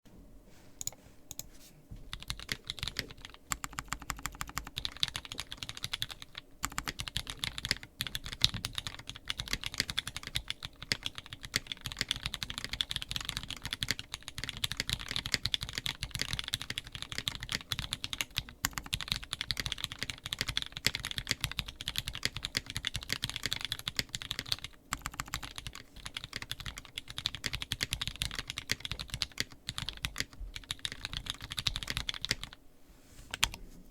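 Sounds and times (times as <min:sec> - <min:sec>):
fast typing on mechanical keyboard: 0:02.1 - 0:32.6.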